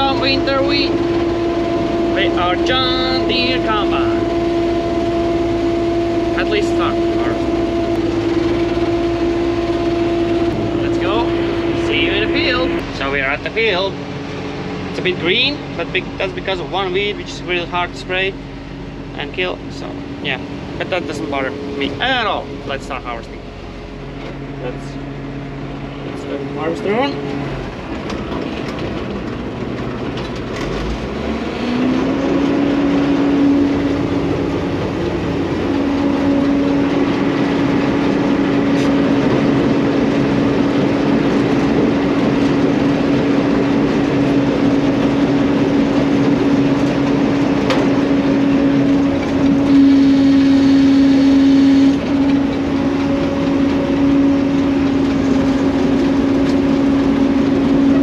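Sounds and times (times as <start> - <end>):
harvester machinery humming: 0.0 - 58.0
running engine: 0.0 - 58.0.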